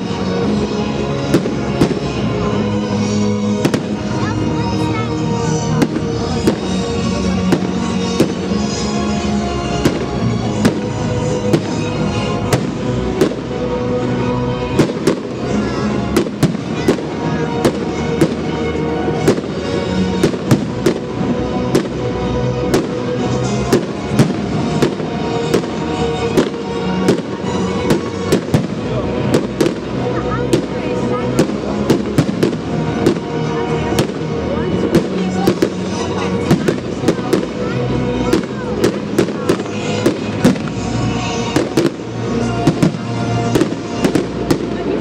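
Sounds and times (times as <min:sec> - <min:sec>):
fireworks bangs: 0:00.0 - 0:45.0
music with long held notes: 0:00.0 - 0:45.0.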